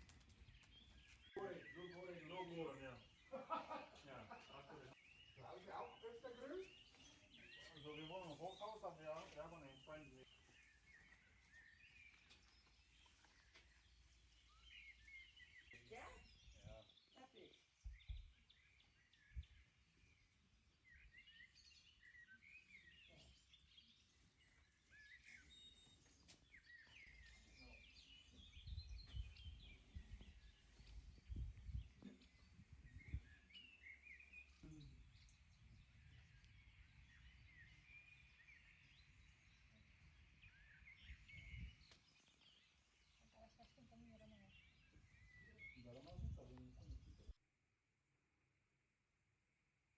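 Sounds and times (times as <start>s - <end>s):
songbirds chirping and trilling: 0.0s - 47.4s.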